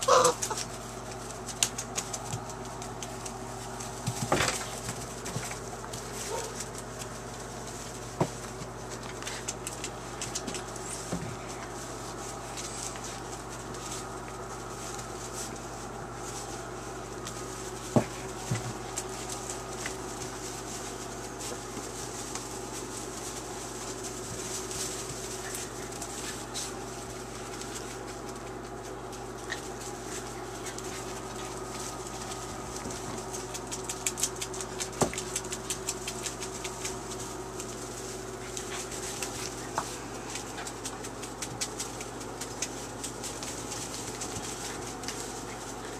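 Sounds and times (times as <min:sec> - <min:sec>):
puppies scuffling in wood shavings: 0:00.0 - 0:45.9
steady hum: 0:00.0 - 0:45.9.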